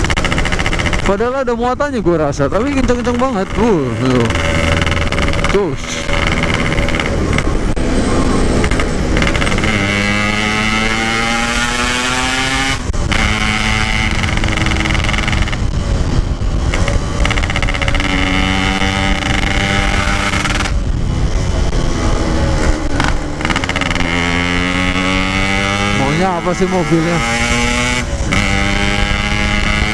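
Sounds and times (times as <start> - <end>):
two-stroke motorcycle engine revving: 0.0 - 1.4, 2.5 - 29.9.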